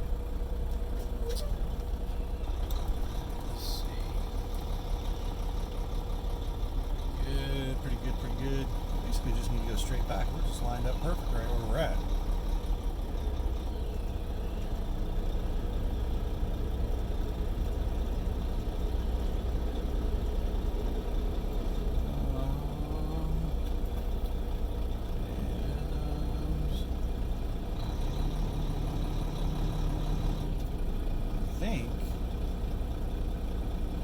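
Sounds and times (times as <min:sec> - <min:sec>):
diesel truck engine at low revs: 0:00.0 - 0:34.0.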